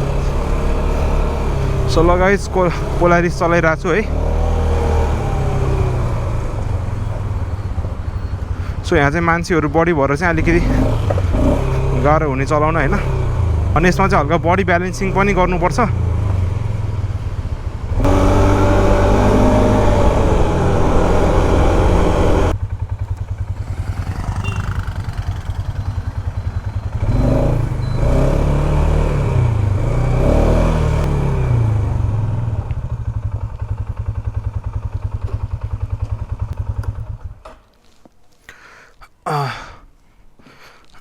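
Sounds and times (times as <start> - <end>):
atv engine revving: 0.0 - 37.6.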